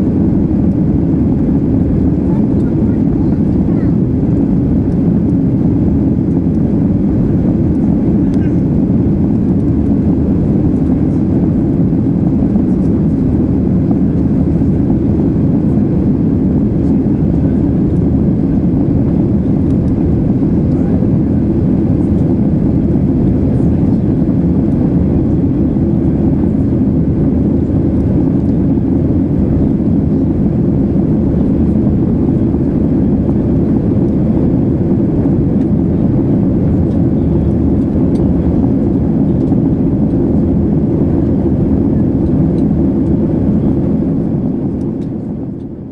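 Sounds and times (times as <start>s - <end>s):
jet engines and rushing air: 0.0s - 45.9s.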